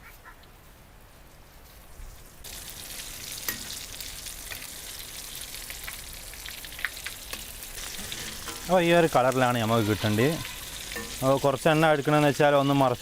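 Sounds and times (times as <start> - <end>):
food sizzling in hot oil: 2.4 - 13.0.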